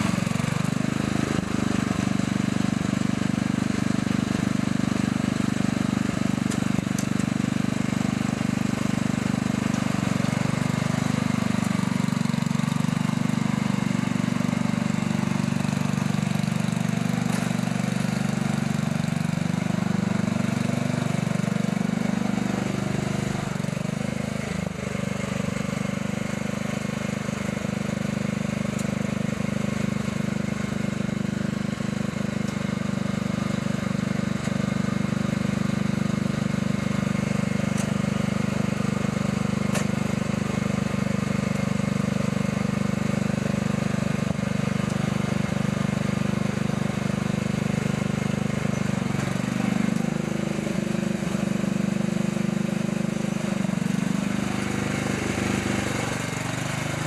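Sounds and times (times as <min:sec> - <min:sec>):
lawnmower engine running: 0:00.0 - 0:57.0.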